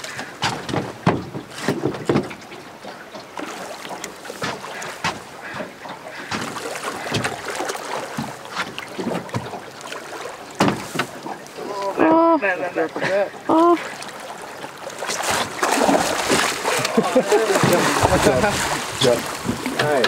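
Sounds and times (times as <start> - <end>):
water slapping metal boat: 0.0 - 20.0.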